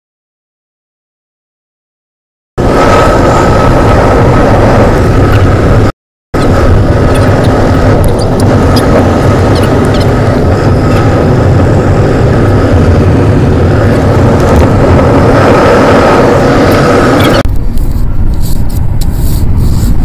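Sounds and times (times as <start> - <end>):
car road and engine noise: 2.6 - 20.0.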